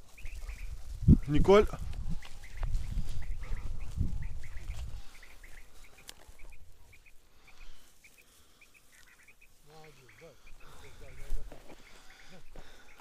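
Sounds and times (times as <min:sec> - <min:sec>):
low wind: 0:00.0 - 0:13.0
quail chirping: 0:00.0 - 0:13.0.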